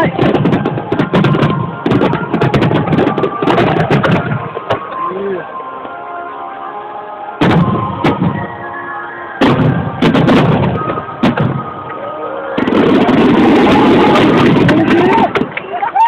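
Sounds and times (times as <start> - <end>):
fireworks booming: 0.0 - 5.1, 7.4 - 15.6
fireworks crackle: 0.0 - 5.4, 7.4 - 16.0
music: 0.0 - 16.0.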